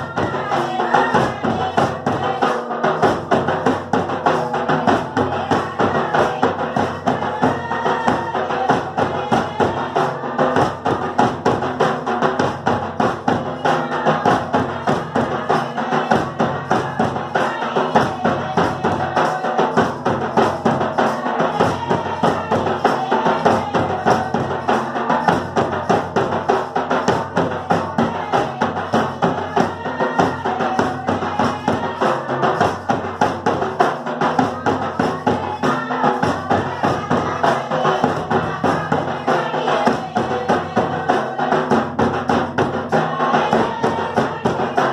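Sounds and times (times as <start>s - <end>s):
drum beaten in quick rhythm: 0.0s - 44.9s.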